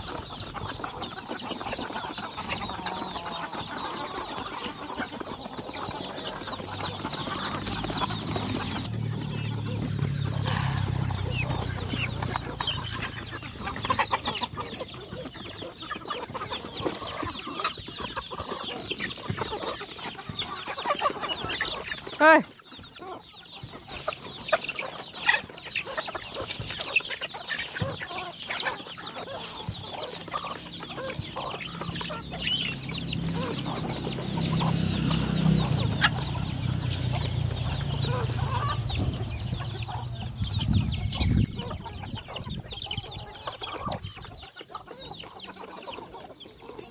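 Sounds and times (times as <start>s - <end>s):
chickens clucking and chirping: 0.0s - 46.9s.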